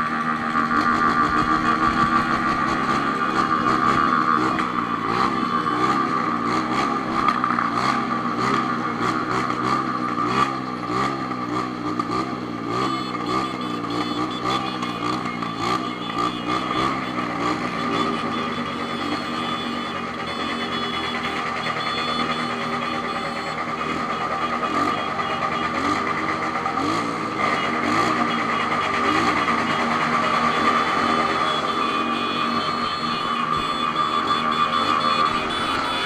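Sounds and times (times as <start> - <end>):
fast irregular engine clicking: 0.0 - 36.0
motorcycle engine whine: 0.0 - 36.0.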